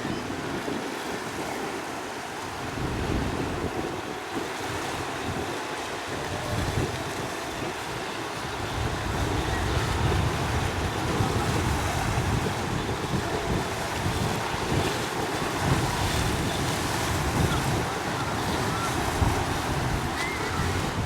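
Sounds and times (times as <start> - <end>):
choppy water and waves: 0.0 - 21.0
wind buffeting microphone: 0.0 - 21.0.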